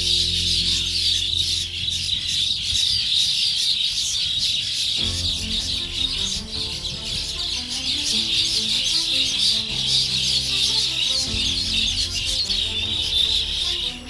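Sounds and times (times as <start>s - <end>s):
soft background music: 0.0s - 3.2s, 4.9s - 14.0s
small birds chirping: 0.0s - 14.0s.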